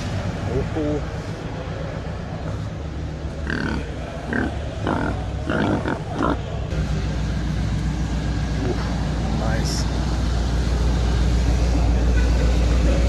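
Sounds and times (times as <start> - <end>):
low hum of large hall: 0.0 - 13.0.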